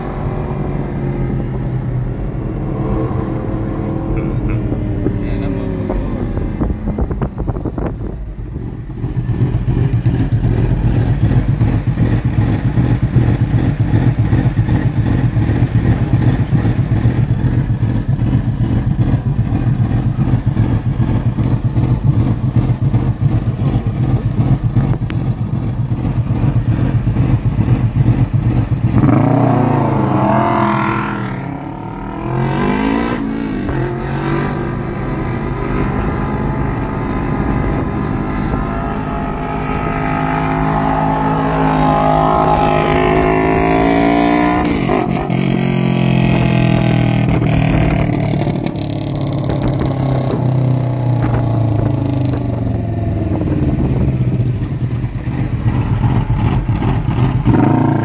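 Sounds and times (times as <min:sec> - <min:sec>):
car engine with pulsing exhaust: 0:00.0 - 0:58.0.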